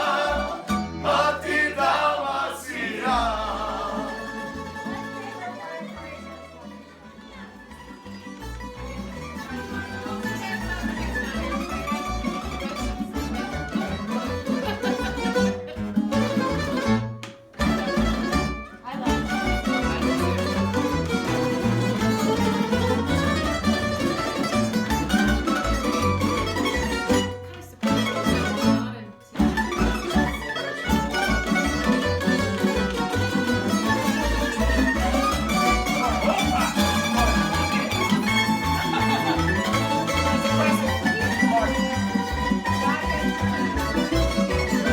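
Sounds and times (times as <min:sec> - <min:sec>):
plucked strings folk ensemble: 0:00.0 - 0:44.9.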